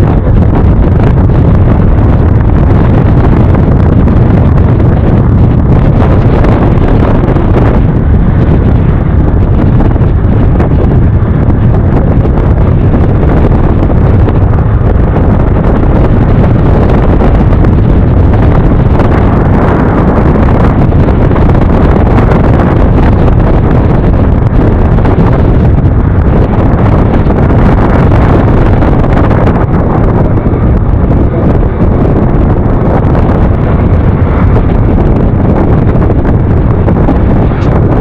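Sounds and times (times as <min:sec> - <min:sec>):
motor scooter rumble: 0:00.0 - 0:38.0
wind rushing over microphone: 0:00.0 - 0:38.0.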